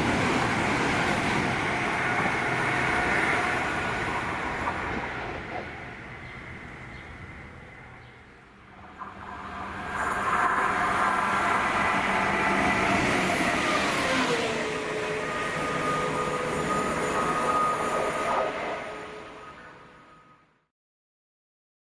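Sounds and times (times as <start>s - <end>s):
train passing: 0.0s - 20.6s.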